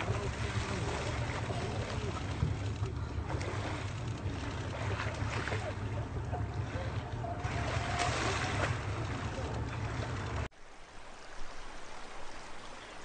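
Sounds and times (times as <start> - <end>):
boat motor rumbling: 0.0 - 10.5
faint voices: 0.0 - 10.5
water noise: 0.0 - 13.0.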